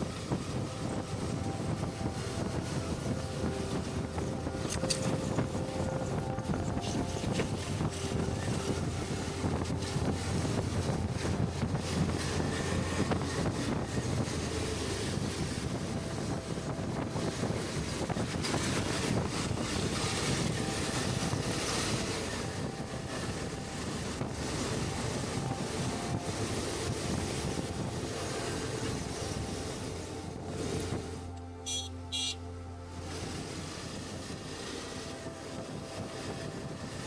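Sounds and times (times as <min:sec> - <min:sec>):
motorcycle engine and road drone: 0:00.0 - 0:37.0
wind noise on microphone: 0:00.0 - 0:37.0.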